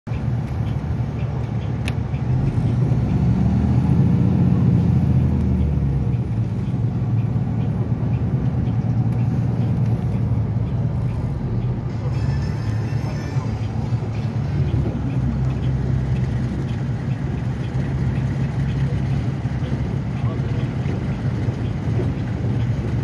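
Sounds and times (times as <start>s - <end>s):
vehicle engine and road rumble: 0.0s - 23.0s.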